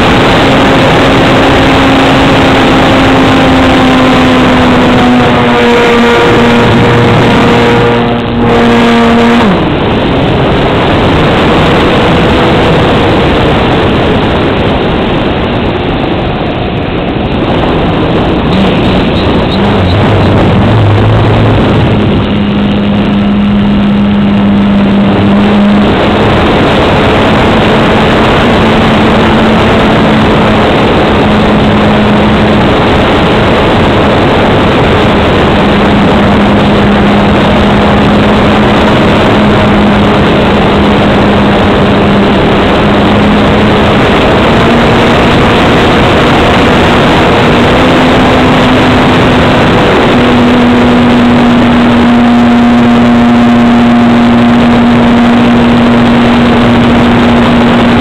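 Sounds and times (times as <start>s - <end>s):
model plane engine and airflow: 0.0s - 58.0s.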